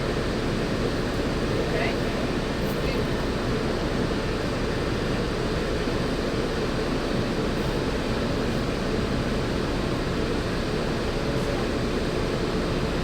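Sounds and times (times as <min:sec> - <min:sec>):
monorail running rumble and hum: 0:00.0 - 0:13.0.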